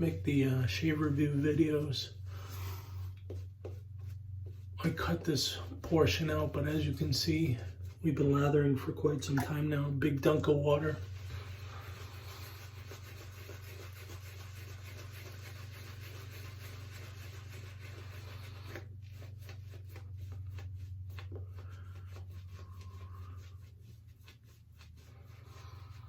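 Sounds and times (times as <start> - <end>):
shaving brush scrubbing lather: 0.0 - 26.0.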